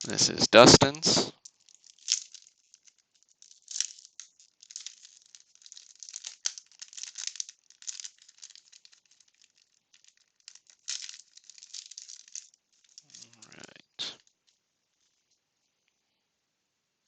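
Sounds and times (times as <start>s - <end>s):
paper wrapper rustling: 1.3s - 15.5s.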